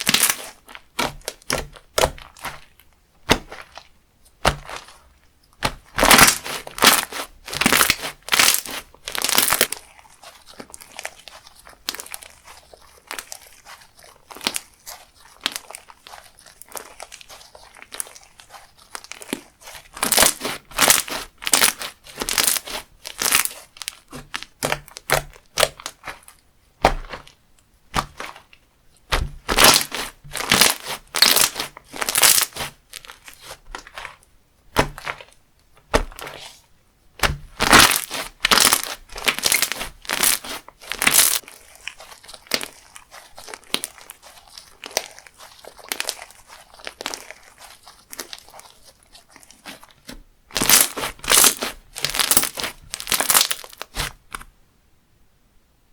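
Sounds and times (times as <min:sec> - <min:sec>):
crunchy slime crackling: 0:00.0 - 0:54.5.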